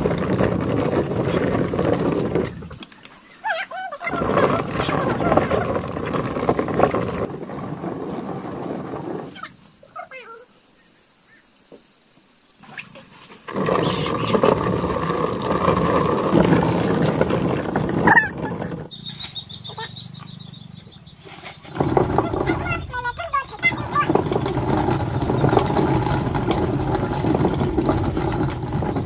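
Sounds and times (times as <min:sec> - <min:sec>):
millstone rasping grinding corn: 0:00.0 - 0:03.4, 0:04.0 - 0:09.4, 0:13.4 - 0:29.0.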